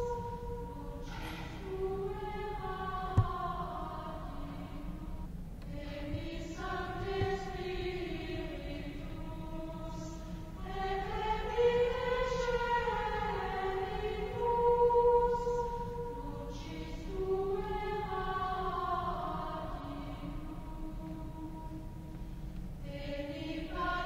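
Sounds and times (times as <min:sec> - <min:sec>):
choir singing sacred music: 0:00.0 - 0:24.0.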